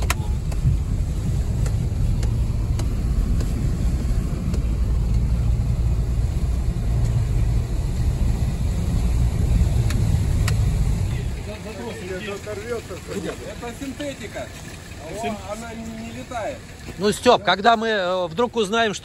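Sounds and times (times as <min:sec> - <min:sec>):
car driving rumble from inside: 0:00.0 - 0:17.4.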